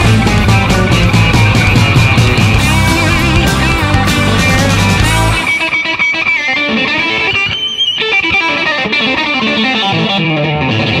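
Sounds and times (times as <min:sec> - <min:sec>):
rock song with distorted guitar: 0:00.0 - 0:11.0.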